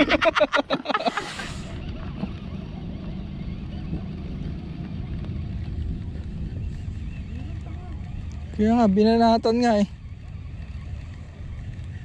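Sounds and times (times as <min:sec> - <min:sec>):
wind rumbling on microphone: 0:00.0 - 0:12.0
small vehicle engine running: 0:00.8 - 0:12.0.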